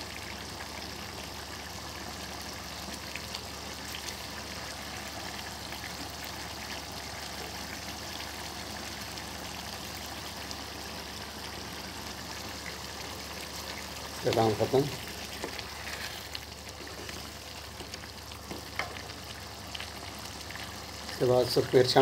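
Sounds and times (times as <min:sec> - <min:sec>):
gravy bubbling in a wok: 0:00.0 - 0:22.0.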